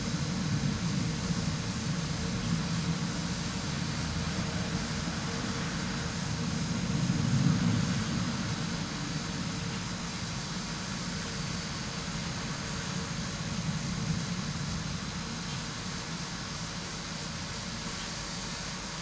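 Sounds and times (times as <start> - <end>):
low rumble through window: 0.0 - 16.7.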